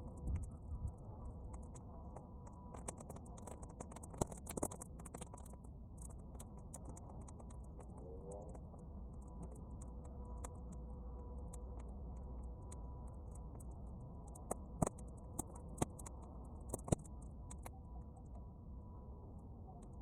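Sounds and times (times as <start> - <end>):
bonfire crackling and popping: 0.0 - 10.8, 11.4 - 17.8
low rumble of wind: 0.0 - 20.0.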